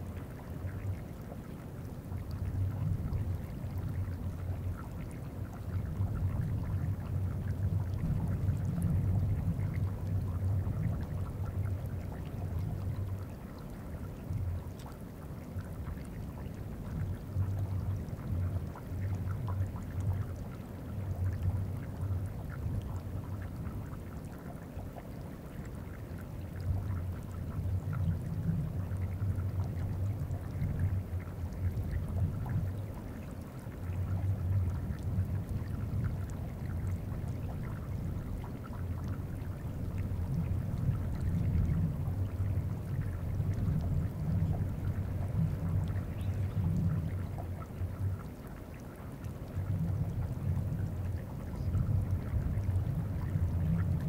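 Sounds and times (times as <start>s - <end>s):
meltwater trickling: 0.0s - 54.0s.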